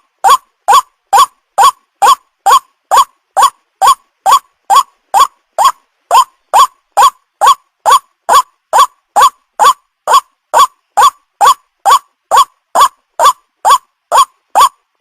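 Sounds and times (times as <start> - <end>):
waterhen call: 0.0 - 14.9.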